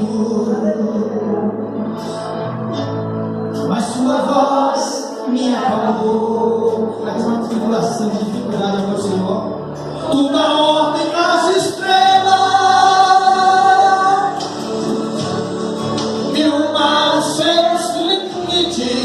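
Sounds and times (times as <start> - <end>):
person singing worship song: 0.0 - 2.5, 3.5 - 19.0
backing music: 0.0 - 19.0.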